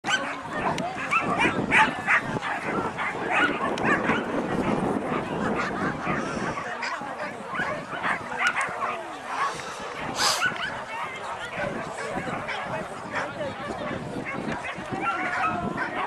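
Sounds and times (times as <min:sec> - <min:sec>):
dogs barking and yipping: 0:00.1 - 0:16.0.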